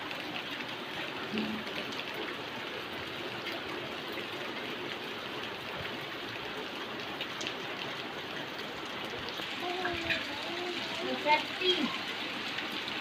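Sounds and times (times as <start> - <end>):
heavy rain pouring: 0.0 - 13.0
raindrop splats: 0.0 - 13.0.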